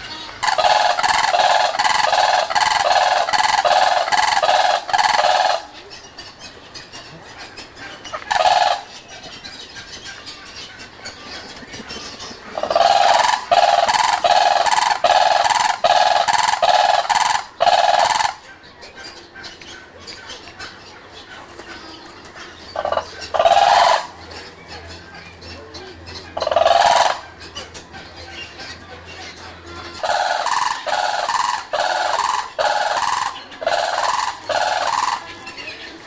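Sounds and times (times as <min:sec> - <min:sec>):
bird calling loudly: 0:00.0 - 0:36.0.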